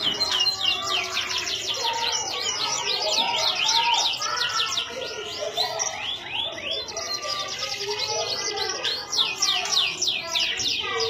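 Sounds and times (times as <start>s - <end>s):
canary singing: 0.0s - 11.0s.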